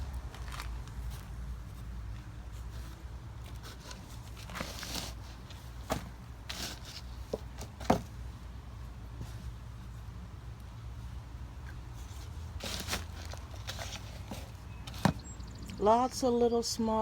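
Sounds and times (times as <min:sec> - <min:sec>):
hands rustling through soil: 0:00.0 - 0:15.5.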